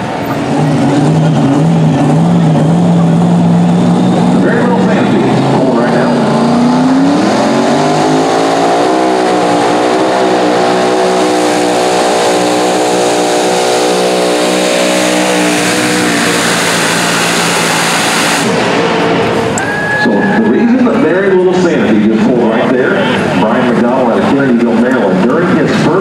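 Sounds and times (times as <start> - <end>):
tractor engine revving: 0.0 - 26.0.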